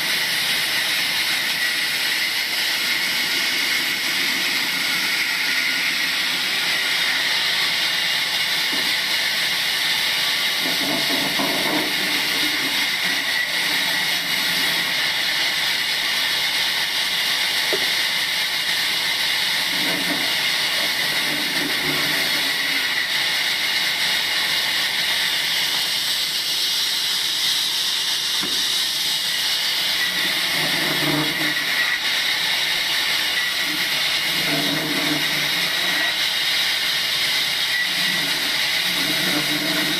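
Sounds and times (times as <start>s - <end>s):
sawmill machine hissing and whining: 0.0s - 39.9s.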